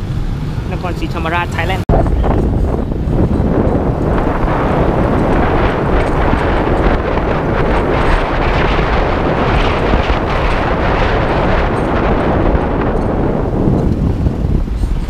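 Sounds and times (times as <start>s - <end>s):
motorbike engine: 0.0s - 15.0s
road noise: 0.0s - 15.0s
wind roaring on microphone: 0.0s - 15.0s.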